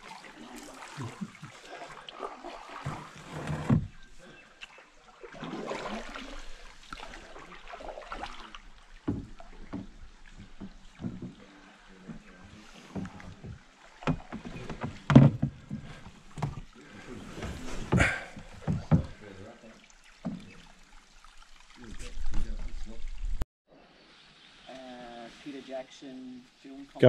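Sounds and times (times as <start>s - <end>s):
canoe paddles splashing in water: 0.0s - 23.4s.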